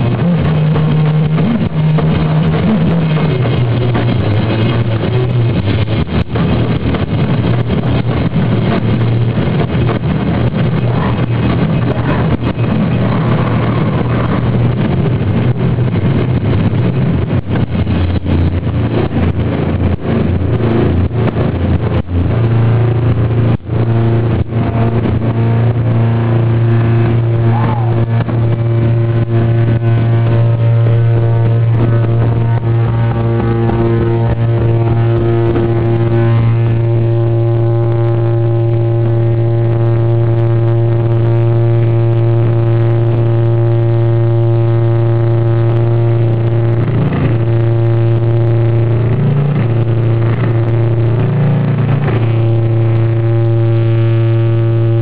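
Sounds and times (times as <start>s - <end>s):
distorted electric guitar drone: 0.0s - 55.0s.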